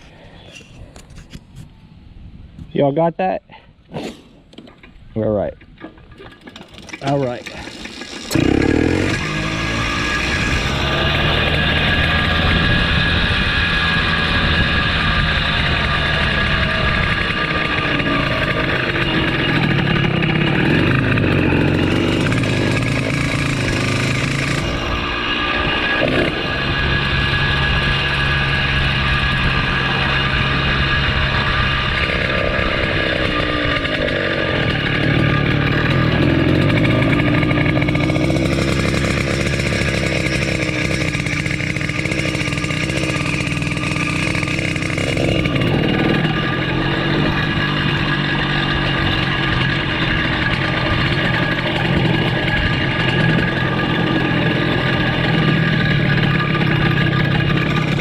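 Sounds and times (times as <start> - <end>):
motorized bicycle engine running: 6.1 - 58.0.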